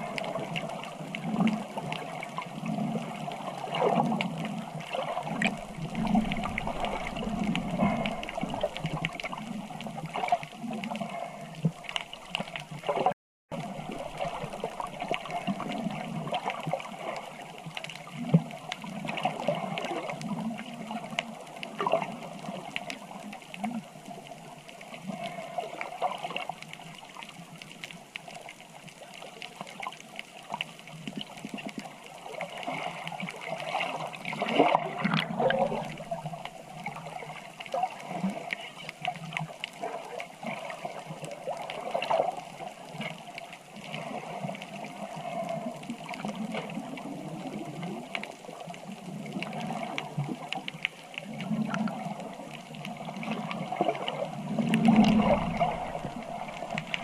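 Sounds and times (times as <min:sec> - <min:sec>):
water bubbling: 0:00.0 - 0:57.0
water gurgling and sloshing: 0:00.0 - 0:57.0.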